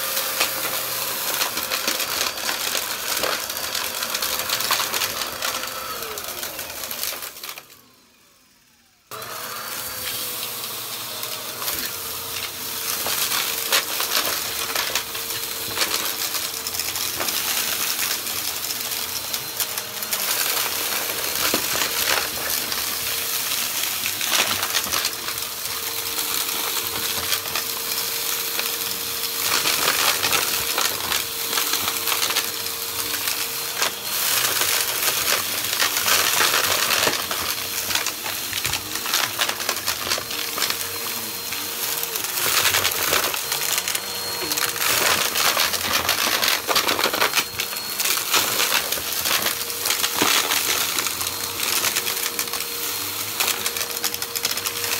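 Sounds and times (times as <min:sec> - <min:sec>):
vacuum cleaner motor hum: 0:00.0 - 0:54.9.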